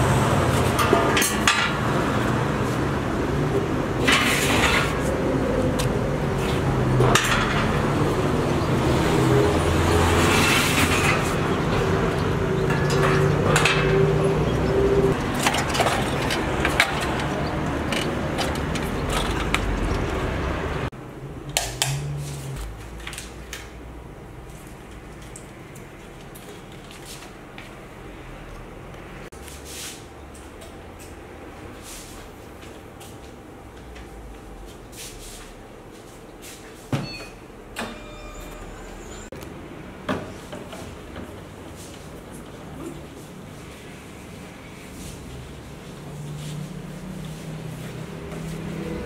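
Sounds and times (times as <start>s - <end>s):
passing traffic: 0.0s - 36.6s, 37.6s - 49.0s.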